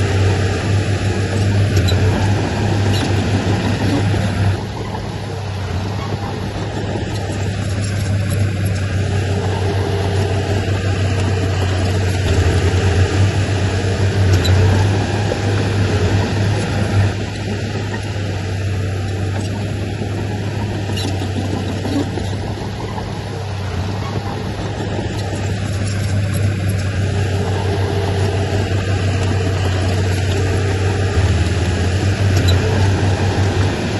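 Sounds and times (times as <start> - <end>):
heavy diesel engine droning: 0.0 - 33.9.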